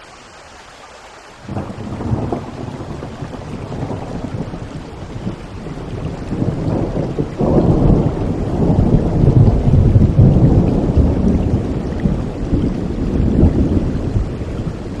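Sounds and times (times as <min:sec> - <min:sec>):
steady rain: 0:00.0 - 0:15.0
thunder rumbling: 0:01.5 - 0:15.0.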